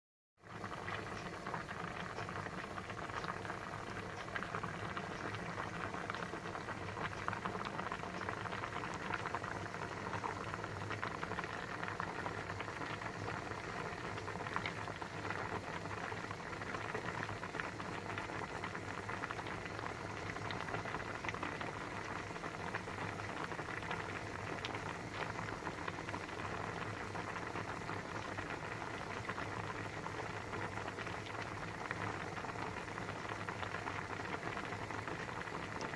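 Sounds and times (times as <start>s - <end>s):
water boiling in a pot: 0.4s - 35.9s.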